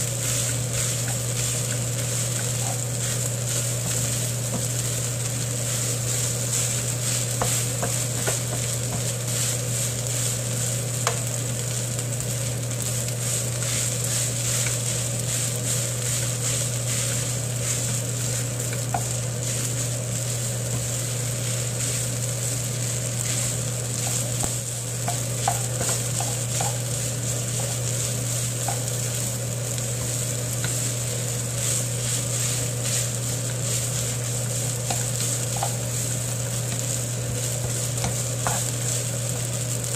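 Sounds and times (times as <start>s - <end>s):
rice sizzling in a frying pan: 0.0s - 39.9s
steady low hum: 0.0s - 39.9s
spatula scraping a pan: 0.2s - 10.4s, 13.2s - 22.2s, 25.0s - 29.4s, 30.0s - 39.9s.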